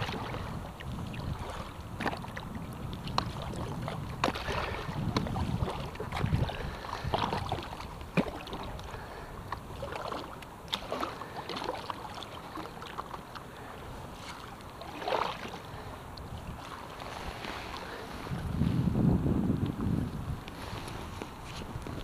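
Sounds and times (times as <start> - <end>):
wind rumble on microphone: 0.0 - 11.8, 13.6 - 22.0
paddle swishing splash: 0.0 - 19.0, 20.5 - 22.0
water lapping and splashing: 0.0 - 22.0.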